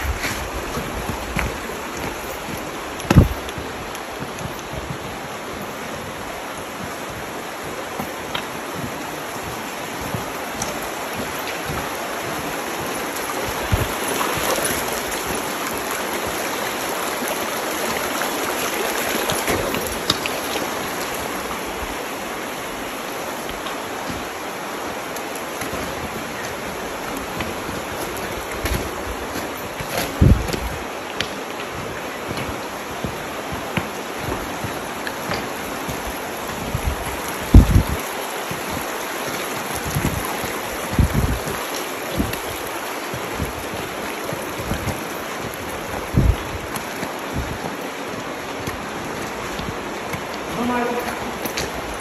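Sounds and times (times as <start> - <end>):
stream running over rocks: 0.0 - 52.0.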